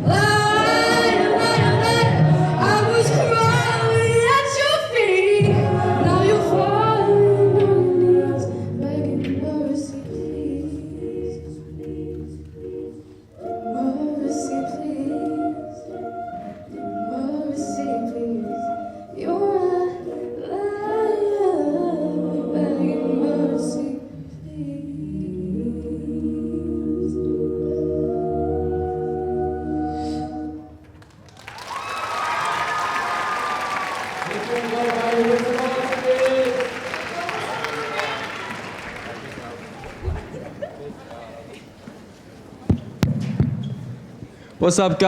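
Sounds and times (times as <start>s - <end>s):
vocal ensemble singing a cappella: 0.0s - 30.8s, 32.5s - 40.7s.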